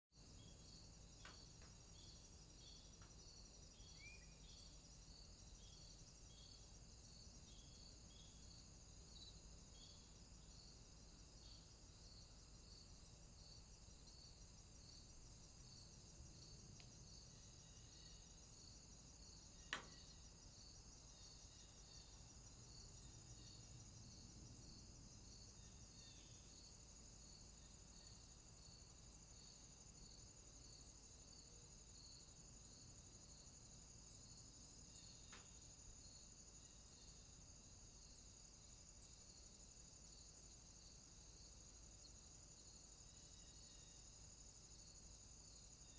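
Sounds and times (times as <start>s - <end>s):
insects chirping: 0.2s - 45.9s.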